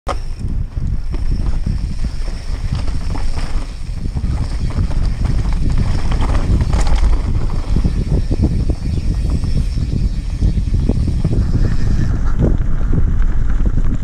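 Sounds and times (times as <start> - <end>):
bike knocks and rattles: 0.1 - 14.0
wind buffeting microphone: 0.1 - 14.0.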